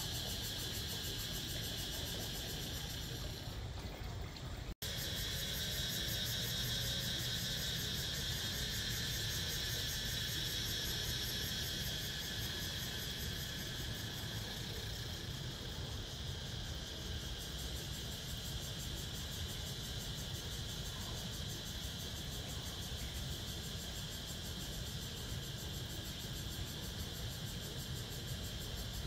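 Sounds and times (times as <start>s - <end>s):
cicadas droning: 0.0s - 29.0s.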